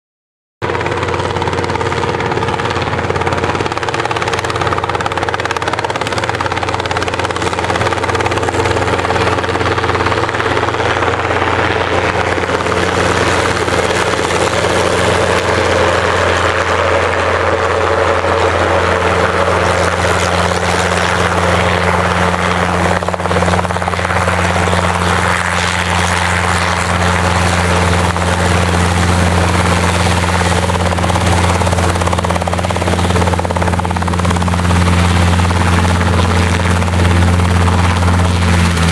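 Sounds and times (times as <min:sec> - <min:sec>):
helicopter rotor and turbine: 0:00.6 - 0:38.9.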